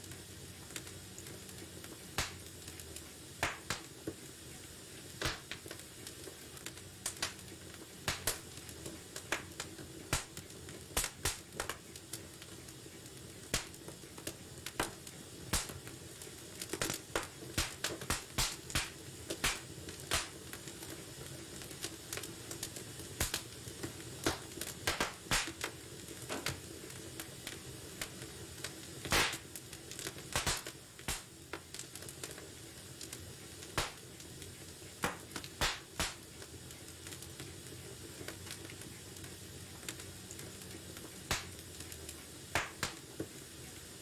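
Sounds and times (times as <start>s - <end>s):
low hiss of burning: 0.0s - 44.0s
wood fire popping and snapping: 0.0s - 44.0s.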